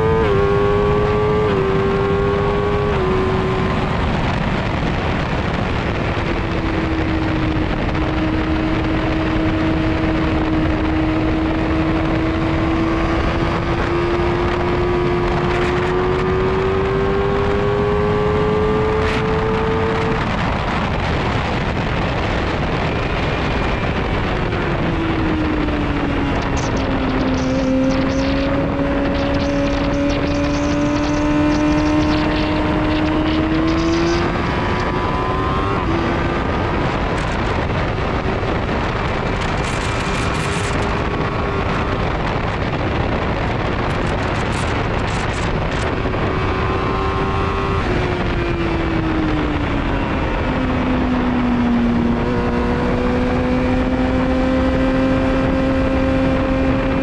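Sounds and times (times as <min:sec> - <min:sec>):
motorcycle engine at high revs: 0:00.0 - 0:57.0
wind rush over microphone: 0:00.0 - 0:57.0.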